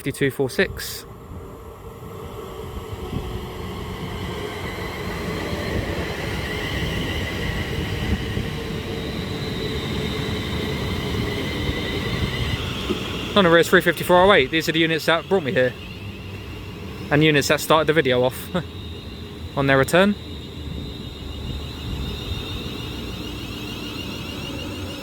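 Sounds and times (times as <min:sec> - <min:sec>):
faint high whine: 0:00.0 - 0:25.0
train wheel and rail noise: 0:00.0 - 0:25.0.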